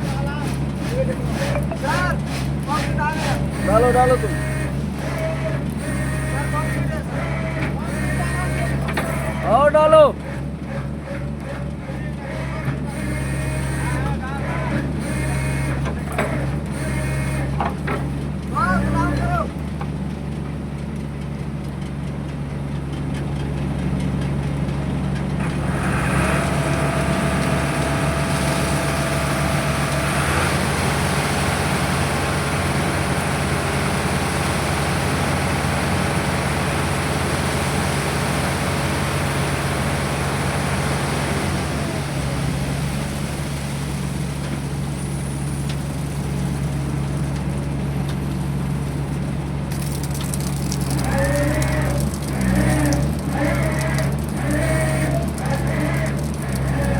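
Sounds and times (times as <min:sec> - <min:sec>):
concrete pouring: 0:00.0 - 0:56.9
machinery engine running: 0:00.0 - 0:56.9.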